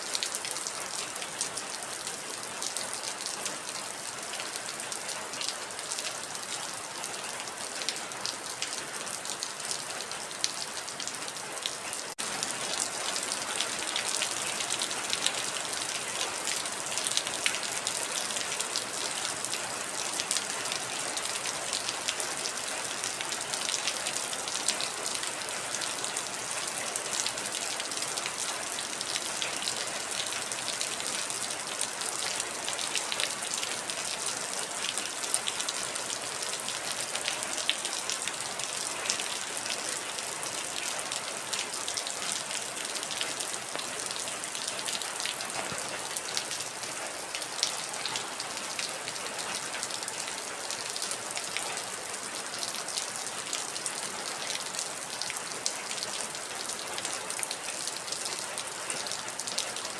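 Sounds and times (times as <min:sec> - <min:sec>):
heavy rain falling: 0:00.0 - 0:59.9
raindrops ticking on a surface: 0:00.1 - 0:59.9.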